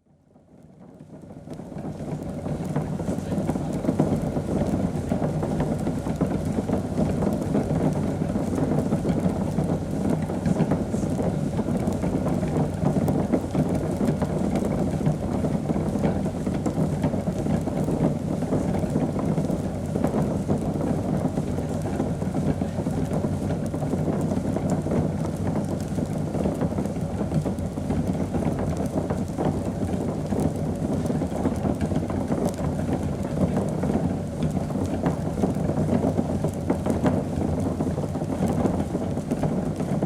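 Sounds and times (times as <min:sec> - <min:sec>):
liquid bubbling at a boil: 0:00.1 - 0:40.0.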